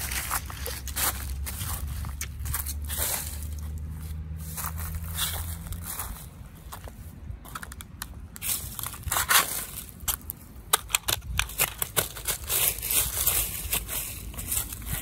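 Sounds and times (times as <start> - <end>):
dry leaves crunching and rustling: 0.0 - 15.0.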